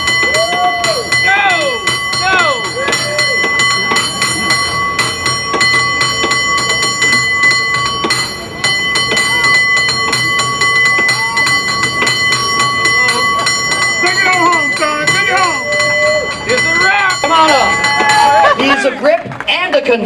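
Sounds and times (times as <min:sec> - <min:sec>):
cable car bell ringing rhythmically: 0:00.0 - 0:19.2.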